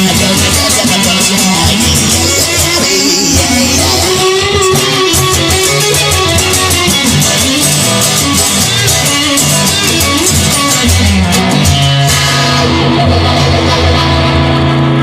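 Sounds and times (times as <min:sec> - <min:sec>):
blues guitar: 0:00.0 - 0:15.0.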